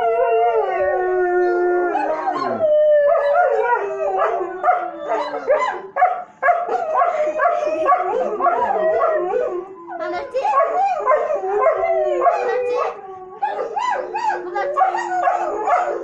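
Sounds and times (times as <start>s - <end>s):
dogs howling: 0.0s - 16.0s.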